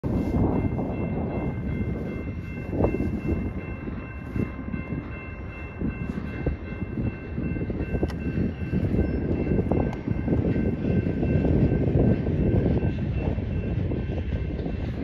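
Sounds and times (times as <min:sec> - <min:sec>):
train knocks: 0:00.0 - 0:15.0
train wheels rumbling on rail: 0:00.0 - 0:15.0.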